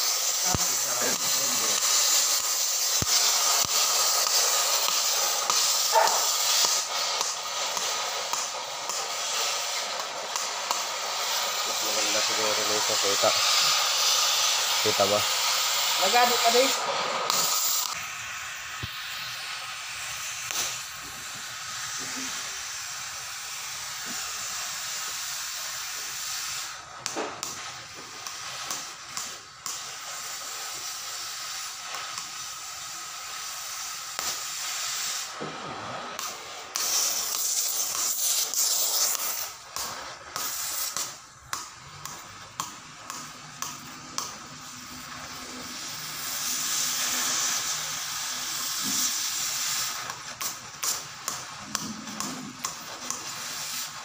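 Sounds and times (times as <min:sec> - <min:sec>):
cutting torch hissing: 0:00.0 - 0:54.0.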